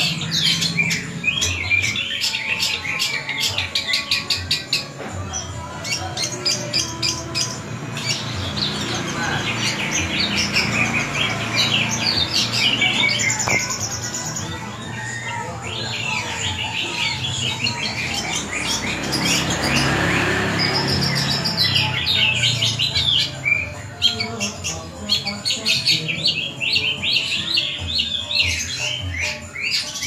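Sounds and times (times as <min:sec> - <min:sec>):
bird singing rapid chirps and trills: 0:00.0 - 0:30.0.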